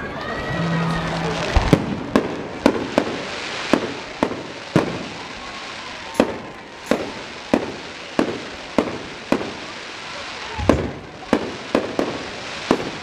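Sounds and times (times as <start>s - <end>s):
fireworks bangs: 0.0s - 13.0s
continuous background hiss: 1.0s - 13.0s.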